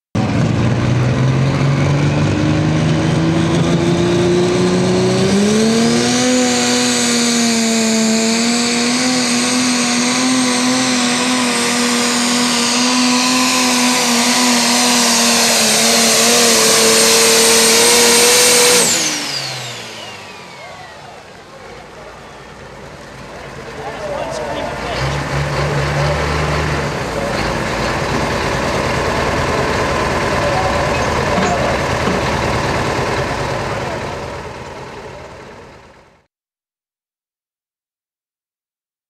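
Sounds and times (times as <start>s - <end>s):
tractor engine at full throttle: 0.1s - 36.3s.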